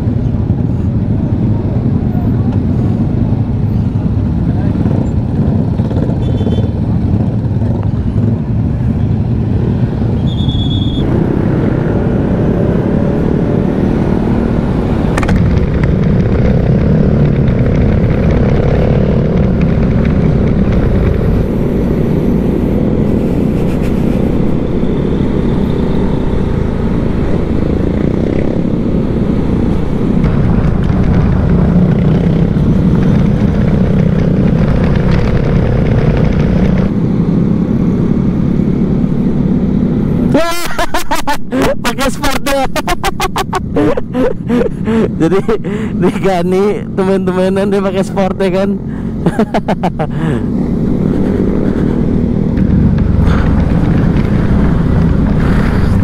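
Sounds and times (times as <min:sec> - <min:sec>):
wind rushing over camera: 0:00.0 - 0:10.4, 0:11.0 - 0:40.3, 0:50.4 - 0:56.0.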